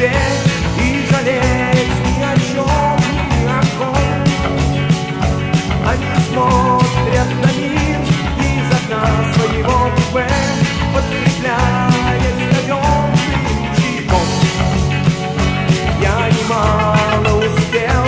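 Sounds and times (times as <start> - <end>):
bass guitar: 0.0 - 18.0
drums steady beat: 0.0 - 18.0
lead guitar bending notes: 0.0 - 18.0.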